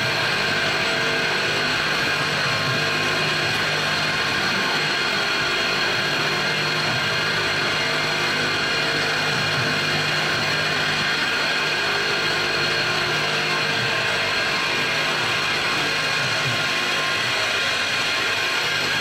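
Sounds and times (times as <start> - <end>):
milling machine cutting metal: 0.0 - 19.0.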